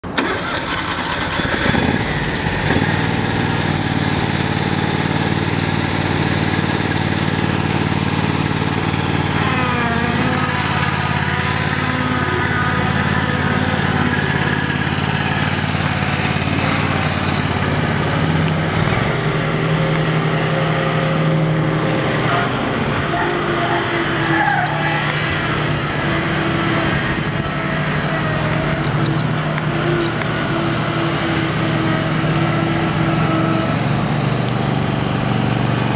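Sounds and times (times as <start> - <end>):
mower engine running: 0.0 - 35.9.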